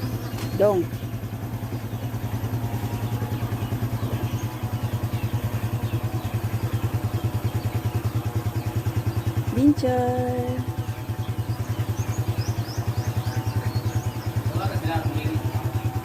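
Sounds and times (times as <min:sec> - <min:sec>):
small engine puttering: 0:00.0 - 0:16.0.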